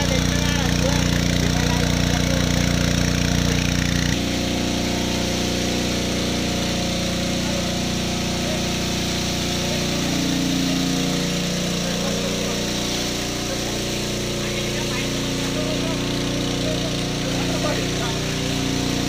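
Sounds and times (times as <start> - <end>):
water gushing from hose: 0.0 - 19.0
water pump engine running: 0.0 - 19.0.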